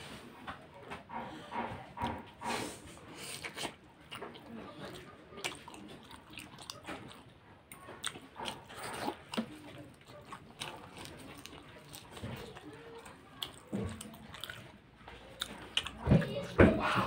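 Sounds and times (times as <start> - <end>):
person chewing food: 1.0 - 17.0.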